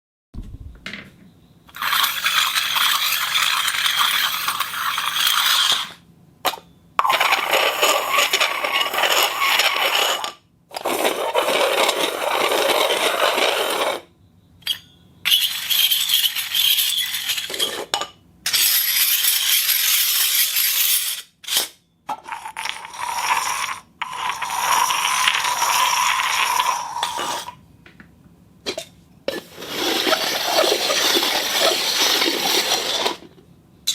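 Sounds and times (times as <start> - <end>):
objects scraping concrete floor: 1.7 - 14.1, 14.7 - 27.6, 28.7 - 33.9.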